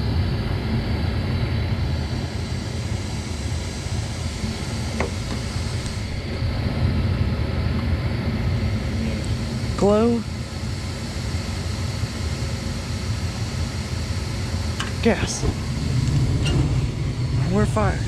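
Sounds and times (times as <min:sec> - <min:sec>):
furnace motor humming: 0:00.0 - 0:18.0.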